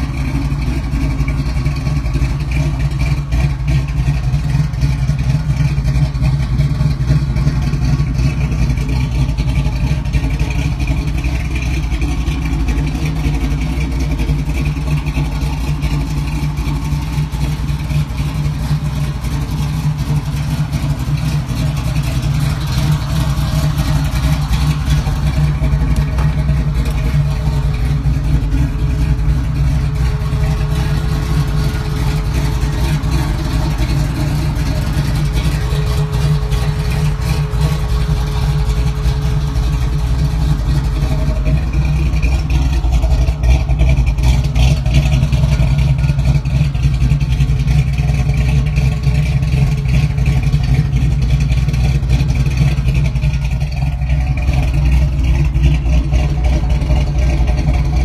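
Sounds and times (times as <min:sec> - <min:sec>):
car engine running steadily: 0:00.0 - 0:58.0.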